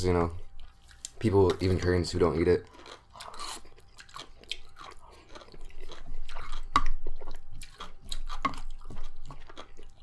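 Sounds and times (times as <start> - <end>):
wet chewing and smacking: 0.4 - 1.9, 2.6 - 10.0.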